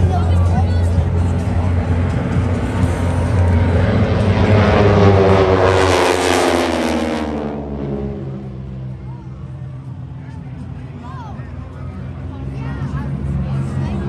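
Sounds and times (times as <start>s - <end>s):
propeller airplane flying past: 0.0s - 14.0s.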